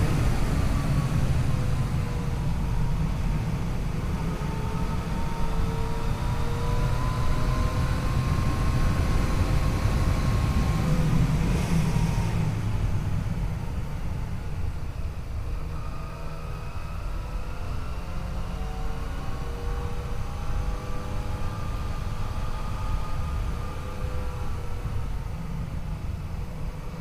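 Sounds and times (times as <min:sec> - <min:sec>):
wind rumble on microphone: 0:00.0 - 0:27.0.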